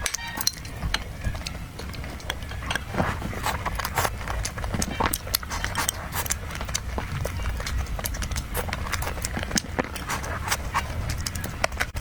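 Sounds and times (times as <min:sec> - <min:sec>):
wet chewing: 0:00.0 - 0:12.0
mouth clicks: 0:01.4 - 0:12.0.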